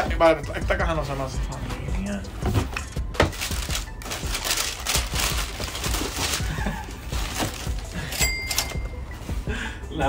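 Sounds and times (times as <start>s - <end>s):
tissue paper rustling and crinkling: 0.6s - 9.5s.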